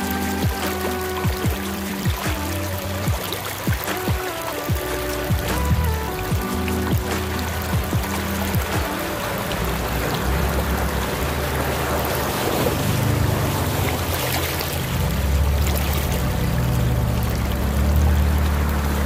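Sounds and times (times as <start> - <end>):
rushing noise: 0.0 - 19.0
truck engine humming: 0.0 - 19.0.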